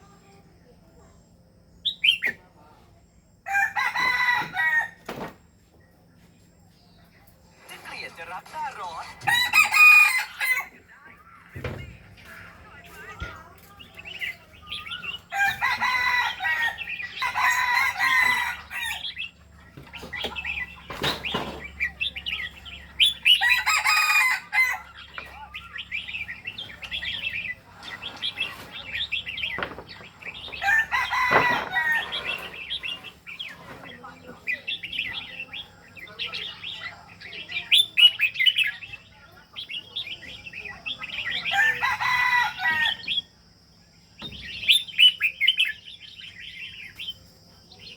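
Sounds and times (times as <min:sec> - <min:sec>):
bird chirping and twittering: 0:00.0 - 0:47.9
loud bird calls: 0:00.0 - 0:47.9.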